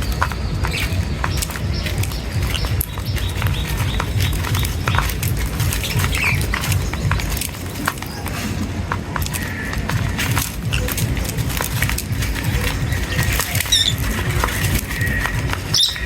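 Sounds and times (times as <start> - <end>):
faint bird chirp: 0.0 - 8.6, 9.3 - 16.0
birds pecking at seed: 0.0 - 16.0.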